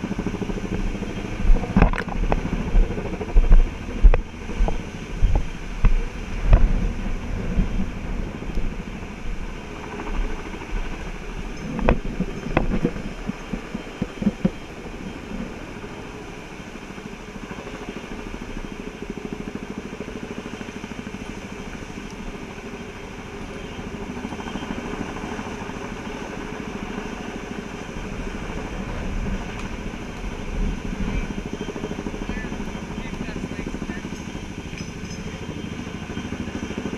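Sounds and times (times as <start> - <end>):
helicopter rotor beat: 0.0 - 36.9.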